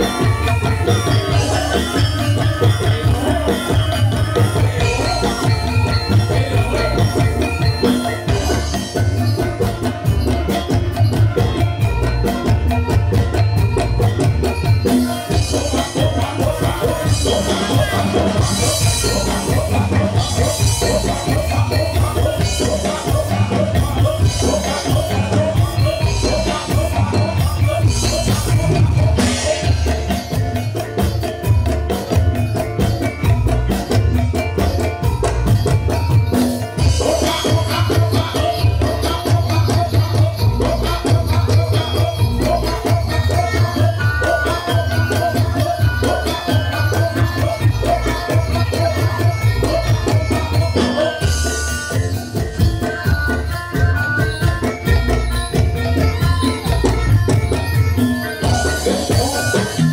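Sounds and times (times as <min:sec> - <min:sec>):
fast drum beat: 0:00.0 - 0:59.9
steady pitched percussion tones: 0:00.0 - 0:59.9.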